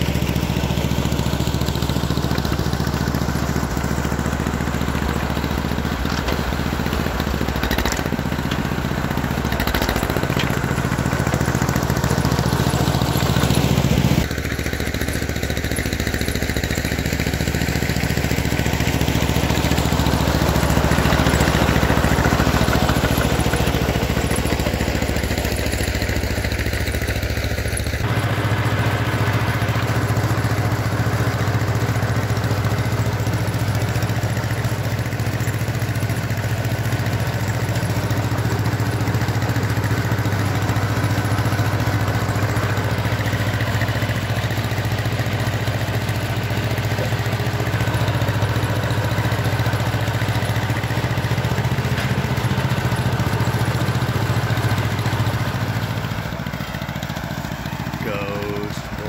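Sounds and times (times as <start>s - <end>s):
crawler engine running under load: 0.0s - 59.0s.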